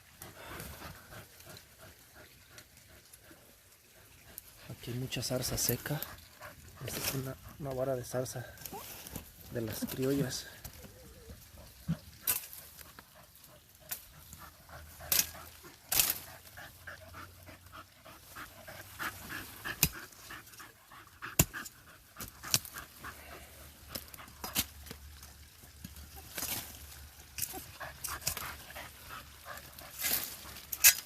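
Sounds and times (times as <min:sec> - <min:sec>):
dogs panting: 0:00.0 - 0:08.6, 0:09.4 - 0:30.9
dogs digging in dry brush: 0:03.9 - 0:31.0.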